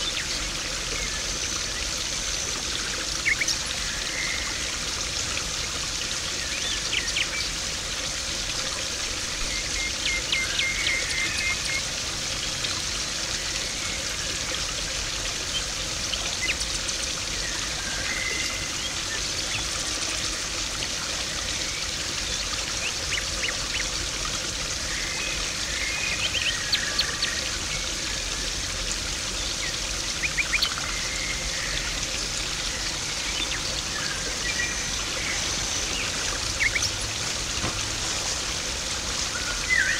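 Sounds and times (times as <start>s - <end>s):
water splashing into a pond: 0.0s - 39.9s.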